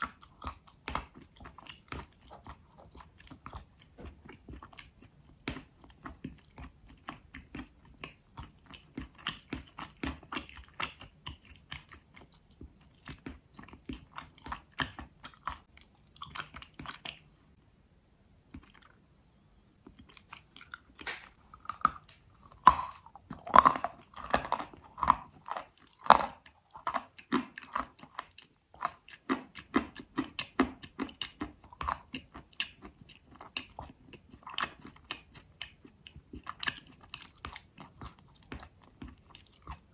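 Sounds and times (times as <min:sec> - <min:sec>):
chalk crunching in chewing: 0:00.0 - 0:17.3, 0:20.0 - 0:39.9.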